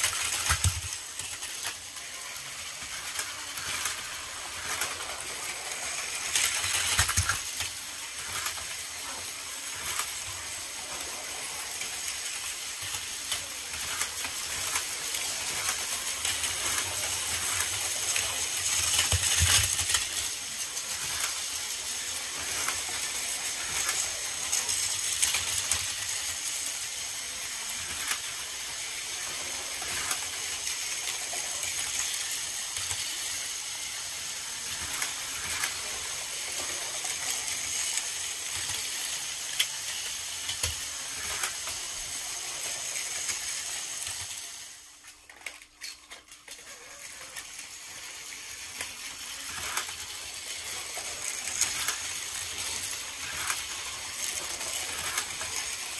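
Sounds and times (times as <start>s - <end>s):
toy train motors whirring: 0.0s - 55.9s.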